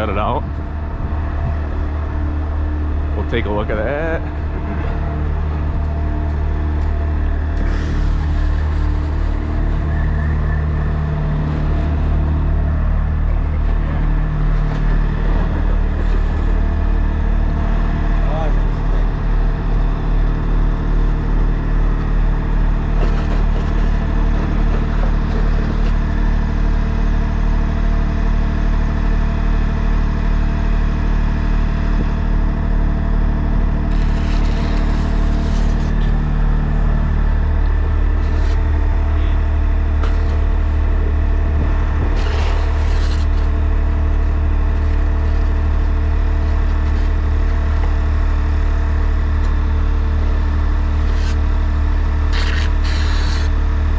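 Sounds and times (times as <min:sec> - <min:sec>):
truck engine running: 0:00.0 - 0:53.9.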